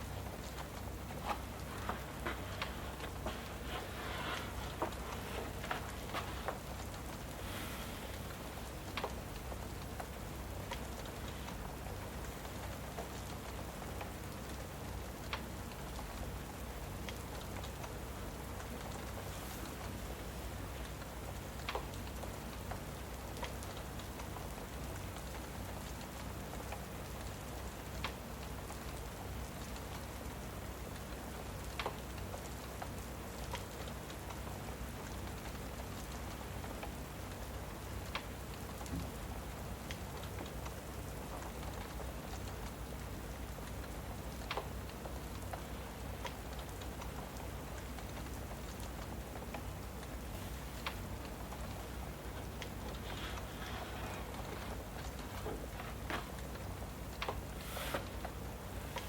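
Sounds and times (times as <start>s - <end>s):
log fire crackling: 0.0s - 59.0s
steady rain: 0.0s - 59.0s.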